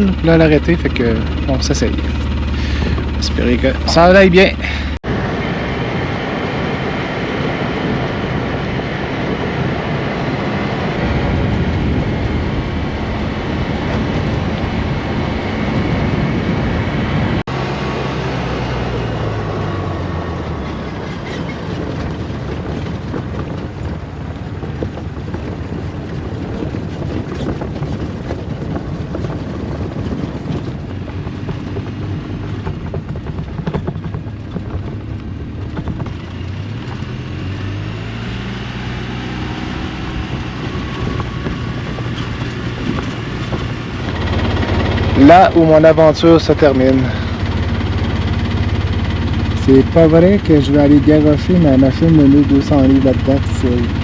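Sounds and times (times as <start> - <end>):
vehicle engine running under load: 0.0 - 54.0.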